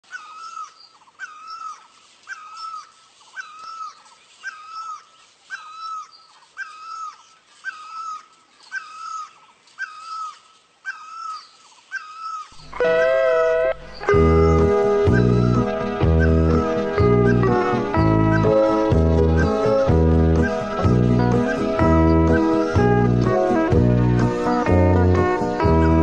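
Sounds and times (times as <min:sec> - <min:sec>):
barbet calling: 0:00.1 - 0:26.0.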